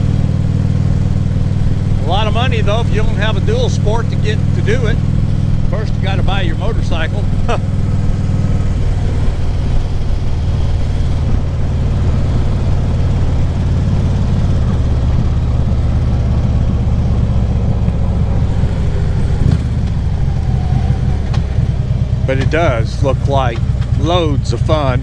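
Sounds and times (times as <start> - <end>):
motorcycle engine rumble: 0.0 - 25.0
road noise: 0.0 - 25.0.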